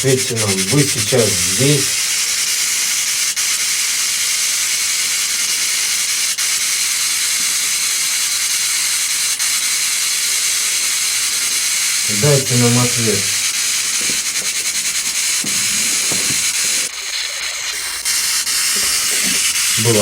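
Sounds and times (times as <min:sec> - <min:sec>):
high-pitched static hiss: 0:00.0 - 0:20.0.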